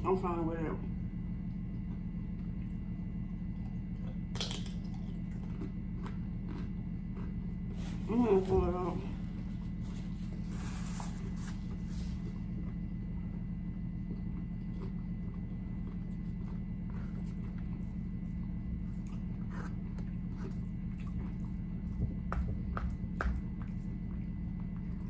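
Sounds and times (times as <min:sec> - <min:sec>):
steady low hum: 0:00.0 - 0:25.0
person chewing food: 0:01.3 - 0:25.0.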